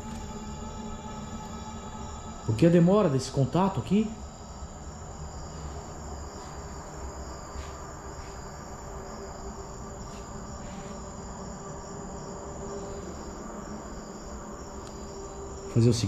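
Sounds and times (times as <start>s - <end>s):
crickets chirping: 0.0s - 16.0s
low steady hum: 0.0s - 16.0s.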